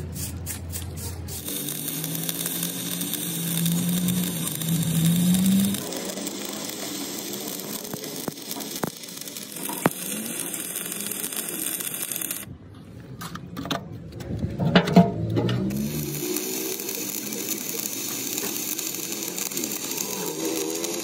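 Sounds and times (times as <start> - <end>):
welding arc crackling: 0.0 - 12.5, 15.5 - 21.0.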